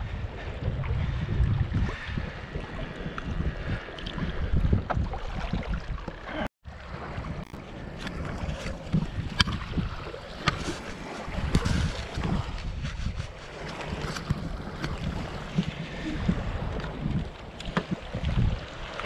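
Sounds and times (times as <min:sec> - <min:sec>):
wind buffeting microphone: 0:00.0 - 0:19.0
lapping water: 0:00.1 - 0:19.0.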